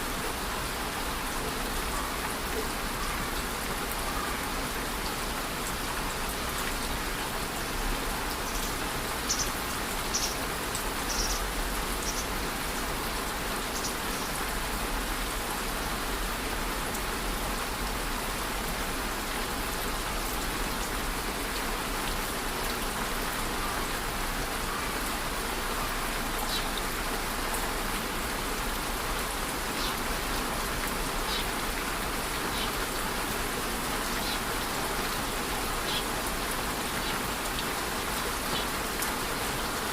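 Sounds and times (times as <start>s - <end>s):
individual raindrops: 0.0s - 39.9s
steady rain hiss: 0.0s - 39.9s.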